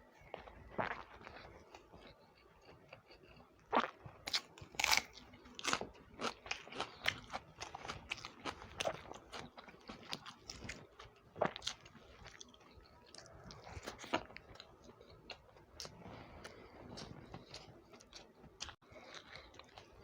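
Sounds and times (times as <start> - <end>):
person chewing with wet smacks: 0.3 - 20.0.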